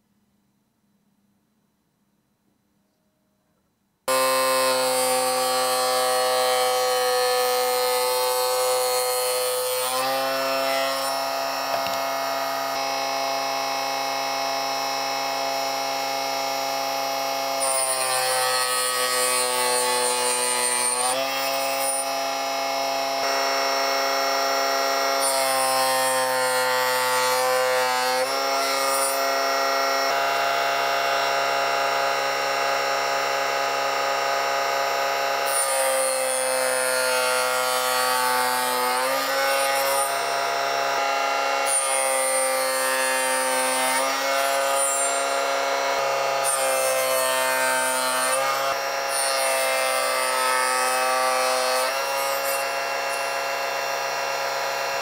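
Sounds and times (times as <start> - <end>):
saw blade cutting wood: 4.1 - 15.3, 17.5 - 31.5, 35.4 - 55.0
table saw whining: 4.1 - 55.0.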